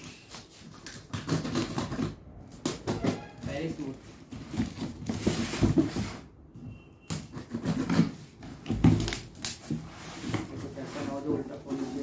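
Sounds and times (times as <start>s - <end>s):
cardboard rustling and knocking: 0.5s - 6.3s, 7.1s - 12.0s.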